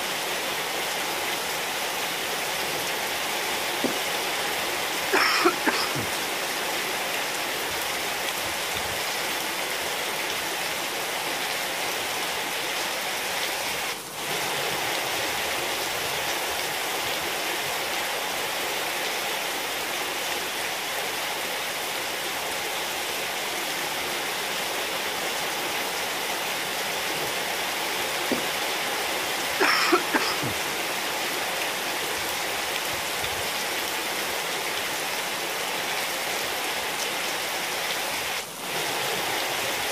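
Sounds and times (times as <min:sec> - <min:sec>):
rain on tiled floor: 0:00.0 - 0:39.9.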